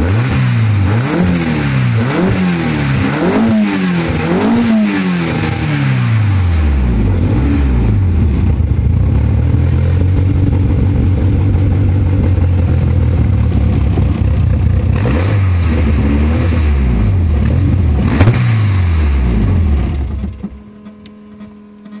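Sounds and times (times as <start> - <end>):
car engine revving and idling: 0.0 - 22.0.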